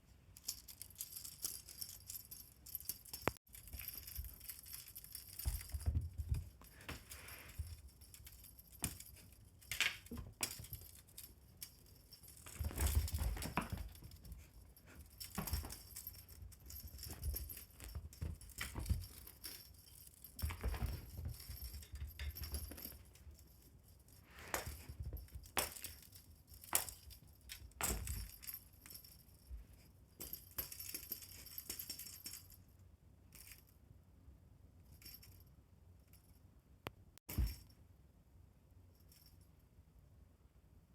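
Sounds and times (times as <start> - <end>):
pet toy jingling and rattling: 0.4 - 33.7.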